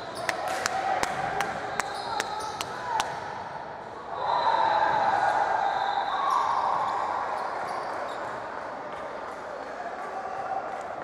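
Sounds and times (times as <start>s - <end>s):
echoing gymnasium basketball game: 0.0s - 11.0s.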